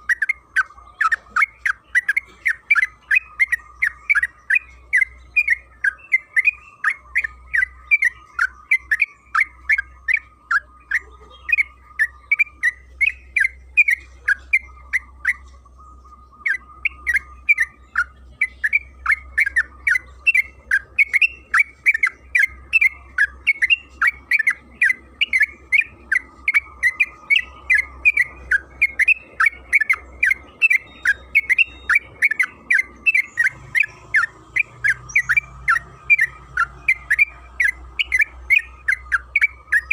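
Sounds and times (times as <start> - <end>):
bird chattering call: 0.0 - 39.9.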